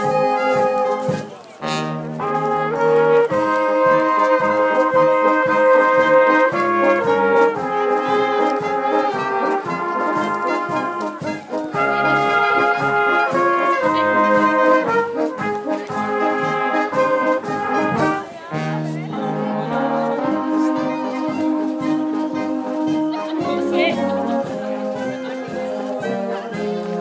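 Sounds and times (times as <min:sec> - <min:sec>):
brass band playing: 0:00.0 - 0:27.0.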